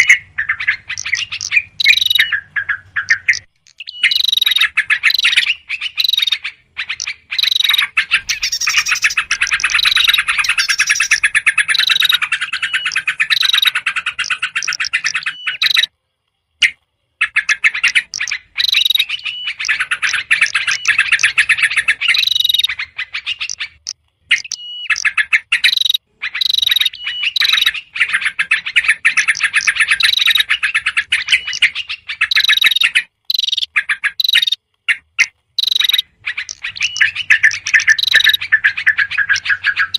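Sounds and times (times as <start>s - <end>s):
songbirds chattering: 0.0s - 15.9s, 16.6s - 39.9s.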